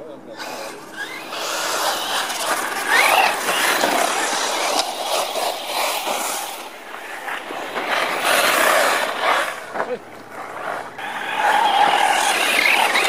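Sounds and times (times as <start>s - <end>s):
tyres scrabbling on loose dirt: 0.0s - 13.0s
electric motor whine: 0.3s - 13.0s.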